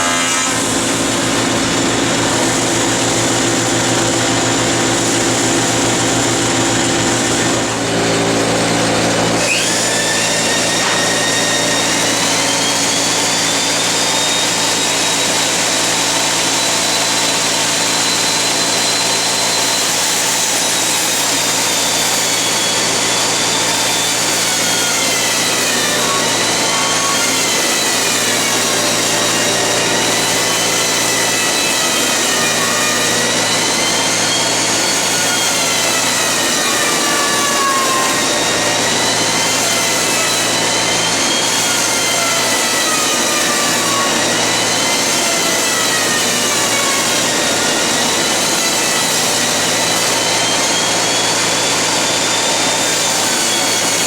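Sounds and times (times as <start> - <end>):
woodworking machine running: 0.0 - 54.0.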